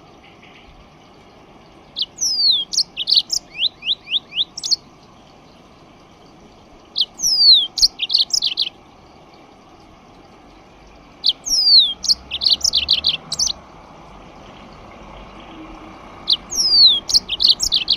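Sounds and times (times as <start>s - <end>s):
songbird singing: 0.0s - 17.9s.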